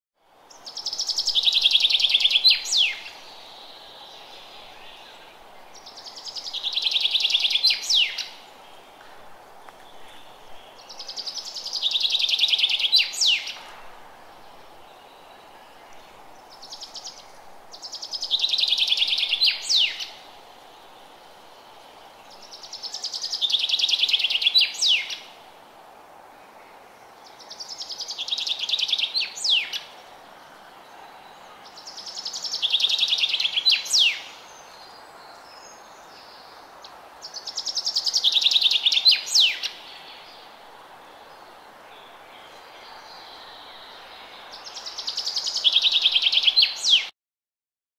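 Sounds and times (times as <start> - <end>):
steady background hiss: 0.2 - 47.1
songbird trilling song: 0.5 - 8.5, 9.6 - 13.8, 14.4 - 21.2, 22.3 - 25.4, 27.3 - 30.0, 31.2 - 36.6, 37.2 - 40.6, 41.2 - 47.1.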